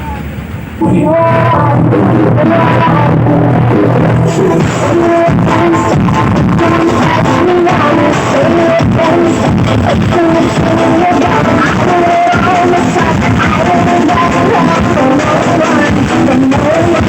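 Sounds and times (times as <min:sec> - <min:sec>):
loud music over sound system: 0:00.8 - 0:17.0.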